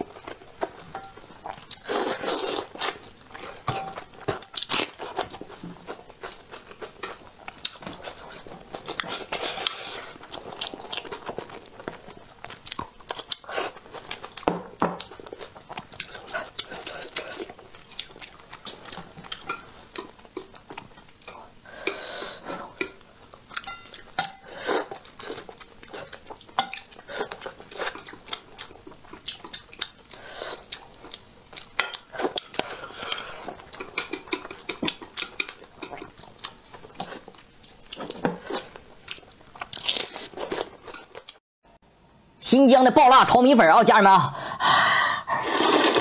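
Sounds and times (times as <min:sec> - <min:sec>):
chewing: 0:00.1 - 0:41.4.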